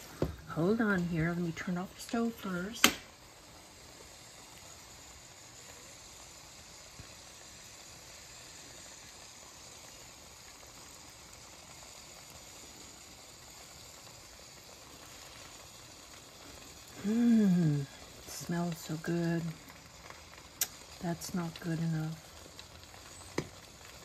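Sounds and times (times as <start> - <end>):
sauce sizzling in a skillet: 0.0 - 24.0.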